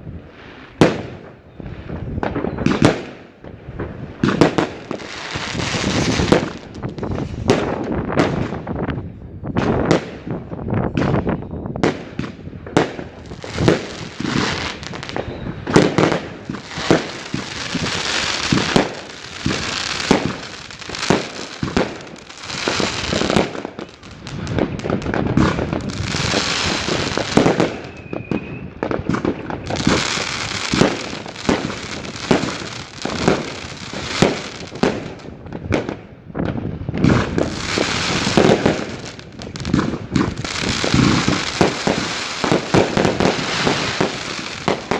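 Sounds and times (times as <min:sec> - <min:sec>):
fireworks crackling: 0:00.0 - 0:44.9
fireworks bangs: 0:00.2 - 0:44.9.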